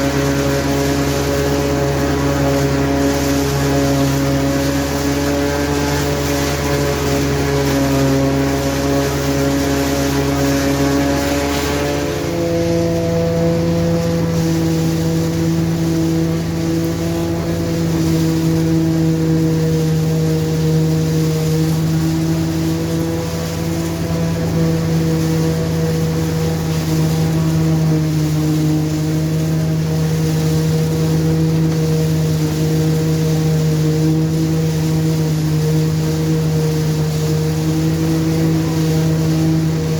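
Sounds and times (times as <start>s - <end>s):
harvester and tractor engine running: 0.0s - 39.9s
machinery hum: 0.0s - 39.9s.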